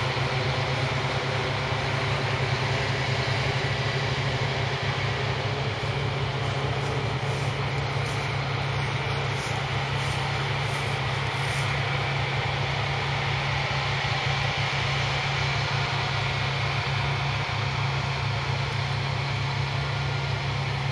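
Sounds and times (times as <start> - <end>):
combine harvester droning: 0.0 - 20.9.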